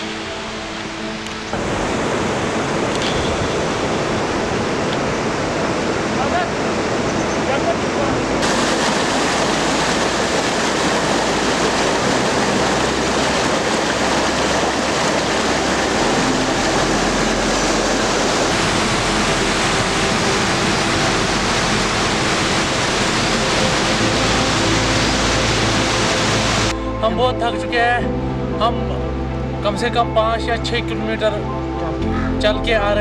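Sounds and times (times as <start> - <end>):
fast-flowing water rushing: 0.0 - 26.8.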